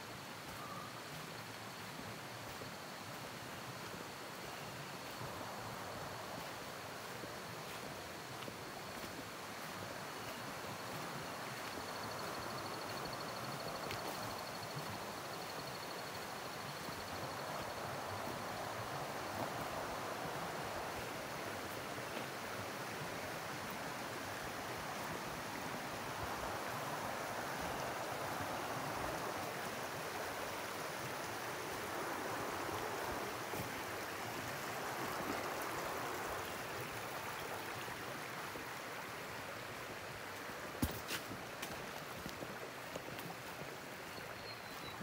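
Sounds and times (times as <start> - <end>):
creek water flowing: 0.0 - 45.0.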